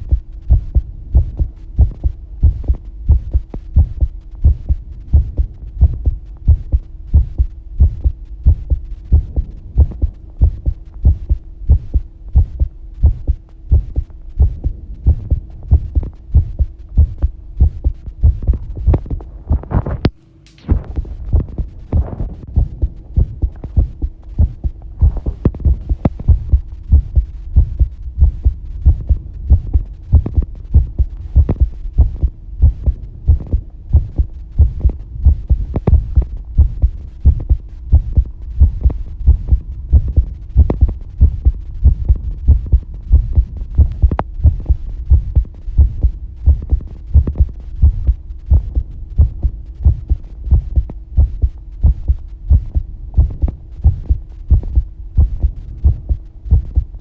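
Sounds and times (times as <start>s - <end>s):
faint steady hum: 0.0s - 57.0s
heartbeat thumps: 0.0s - 57.0s.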